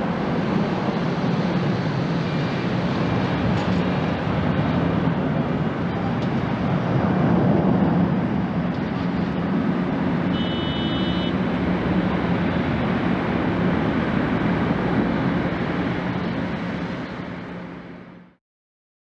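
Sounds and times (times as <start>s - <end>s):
jet engine roar: 0.0s - 18.4s.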